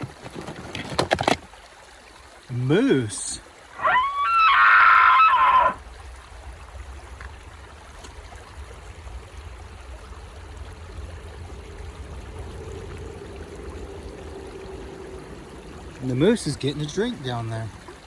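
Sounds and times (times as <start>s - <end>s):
small stream running: 0.0s - 18.0s.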